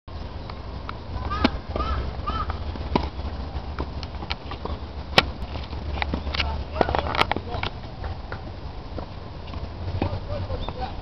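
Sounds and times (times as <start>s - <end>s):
steady low rumble: 0.1s - 11.0s
tennis balls struck by racquets: 1.2s - 10.9s.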